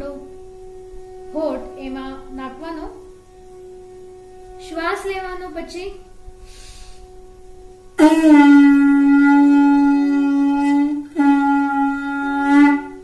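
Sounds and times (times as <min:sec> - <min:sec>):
horn-like notes blown through pipe: 0:00.0 - 0:13.0.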